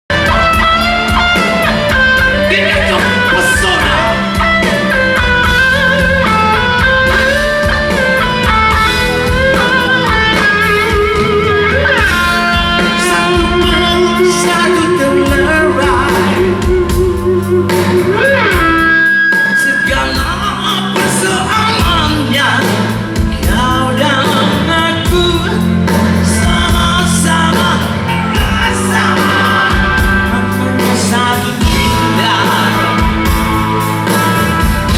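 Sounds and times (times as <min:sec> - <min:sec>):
bass and drums: 0:00.0 - 0:34.9
electric guitar melody: 0:00.1 - 0:34.9.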